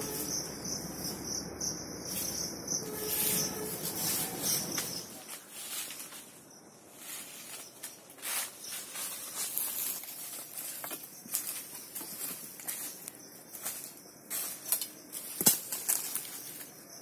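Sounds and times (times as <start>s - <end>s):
footsteps crunching dry leaves: 0.0s - 1.1s, 2.0s - 16.8s.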